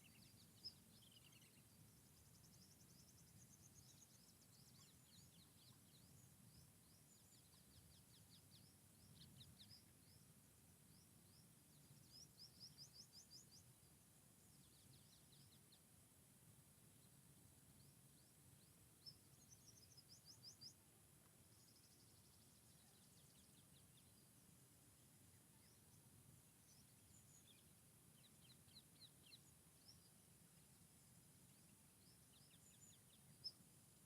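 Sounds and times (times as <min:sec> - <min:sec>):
songbirds chirping: 0:00.0 - 0:34.0.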